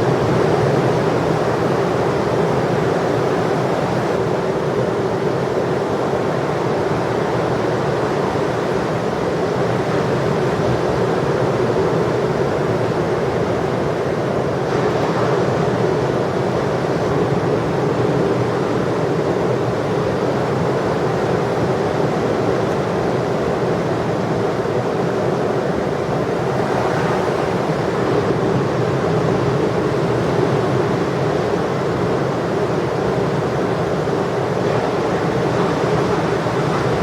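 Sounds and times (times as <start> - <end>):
heavy ocean surf breaking: 6.4 - 37.0.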